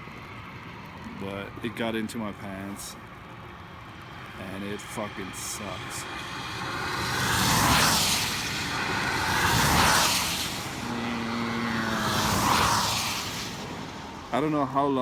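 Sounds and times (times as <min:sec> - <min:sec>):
vehicle engines passing: 0:00.0 - 0:15.0
tyres hissing on wet road: 0:00.2 - 0:15.0.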